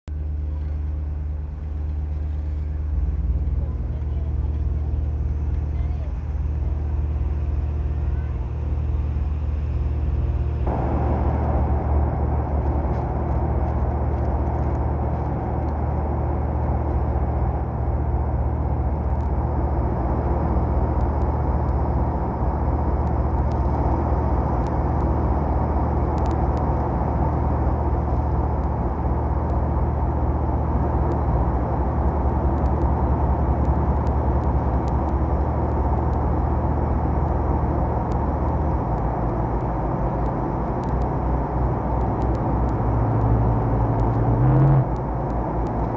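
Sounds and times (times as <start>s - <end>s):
propeller aircraft engines droning: 0.1s - 45.9s.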